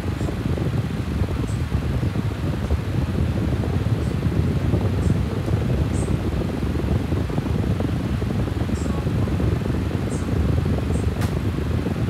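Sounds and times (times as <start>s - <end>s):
low rumbling machine noise: 0.0s - 12.0s.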